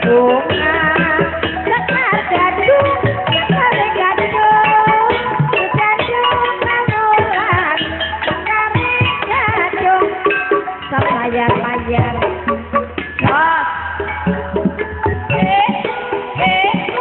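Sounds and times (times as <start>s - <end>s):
gong-chime and metallophone notes: 0.0s - 17.0s
hand-drum strokes: 0.0s - 17.0s.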